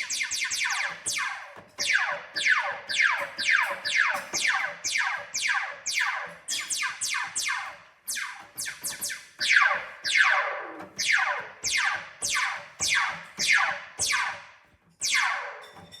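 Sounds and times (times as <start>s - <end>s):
laser gun zaps: 0.0s - 14.4s, 15.0s - 15.8s.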